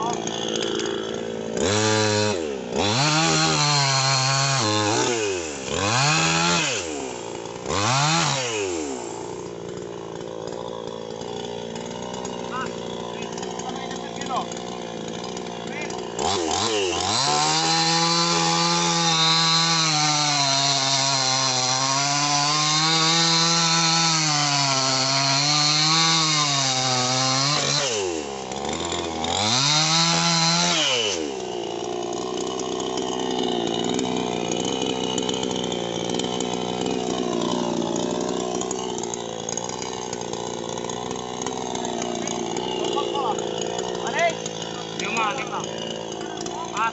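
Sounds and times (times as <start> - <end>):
chainsaw cutting branch: 0.0 - 46.9.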